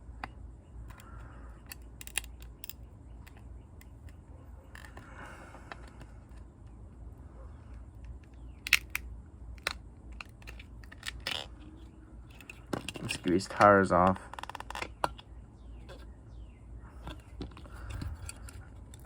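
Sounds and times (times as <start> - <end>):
low steady hum: 0.0 - 19.0
small parts clicking: 0.2 - 6.5, 7.7 - 15.3, 17.0 - 19.0.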